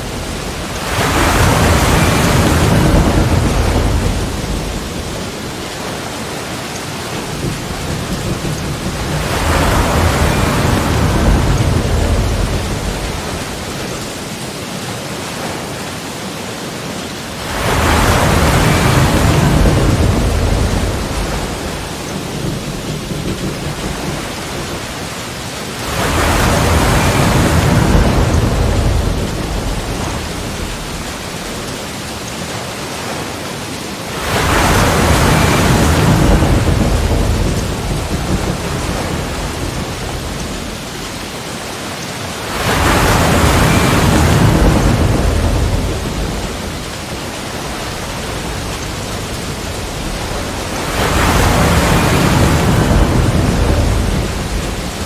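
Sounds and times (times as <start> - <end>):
wash of water: 0.0 - 14.7, 17.2 - 55.0
waves crashing against rocks: 0.0 - 55.0.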